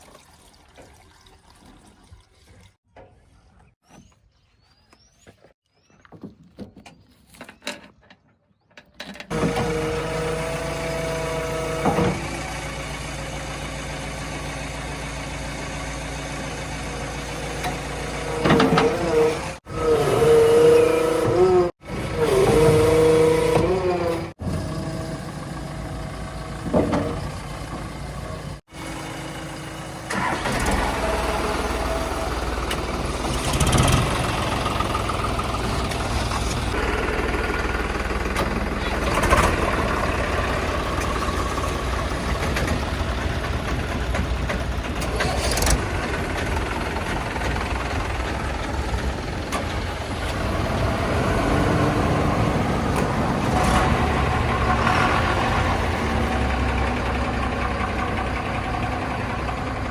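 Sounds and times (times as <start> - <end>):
heavy diesel machinery running: 9.3 - 59.9.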